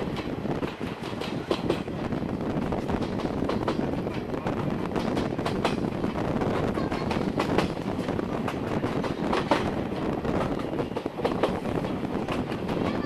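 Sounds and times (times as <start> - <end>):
train coach rumble: 0.0 - 13.0
wheels clicking on rails: 0.0 - 13.0.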